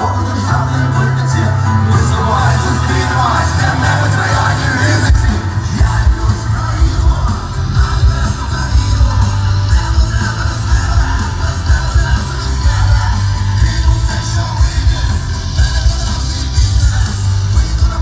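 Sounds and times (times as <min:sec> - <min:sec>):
heavy bass: 0:00.0 - 0:18.0
live rock band playing: 0:00.0 - 0:18.0
person singing: 0:00.0 - 0:18.0.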